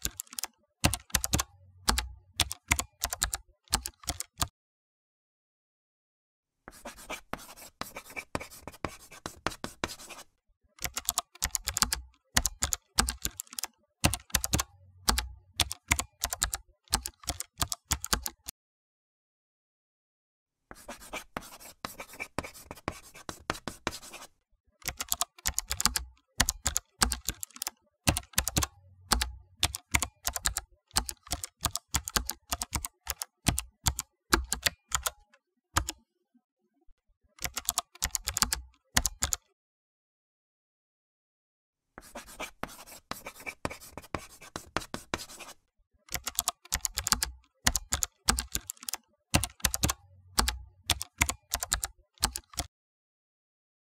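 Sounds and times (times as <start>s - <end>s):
keyboard typing: 0.0s - 4.5s, 7.4s - 18.5s, 21.1s - 36.0s, 37.4s - 39.5s, 42.1s - 52.7s.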